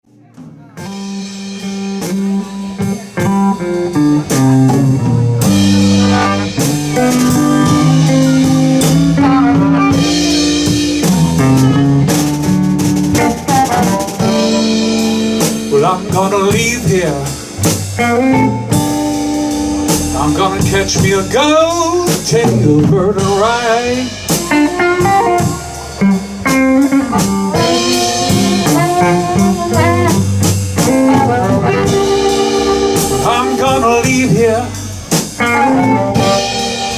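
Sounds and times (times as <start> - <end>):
drum kit: 0.0 - 36.9
electric blues band playing: 0.0 - 36.9
guitar: 0.0 - 36.9.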